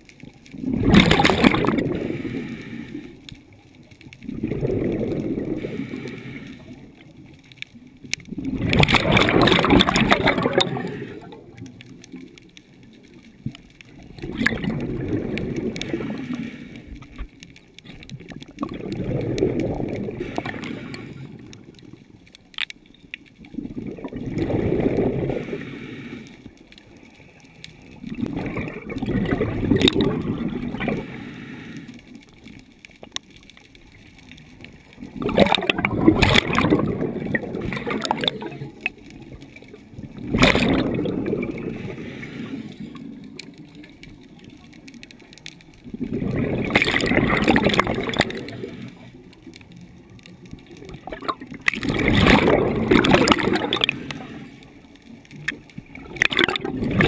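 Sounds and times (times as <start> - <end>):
scuba regulator breathing bubbles: 0.5 - 3.5, 4.1 - 7.2, 8.2 - 12.2, 14.0 - 22.0, 23.5 - 32.3, 34.4 - 44.0, 45.8 - 49.6, 50.8 - 57.0.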